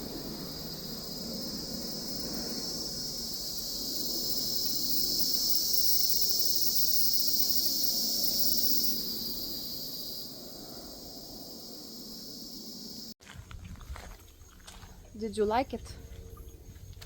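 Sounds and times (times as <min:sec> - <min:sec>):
cicadas buzzing: 0:00.0 - 0:13.2, 0:14.2 - 0:17.0.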